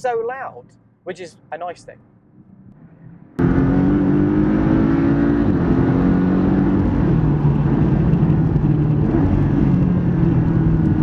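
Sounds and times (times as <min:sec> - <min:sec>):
car engine and exhaust: 0:02.0 - 0:11.0.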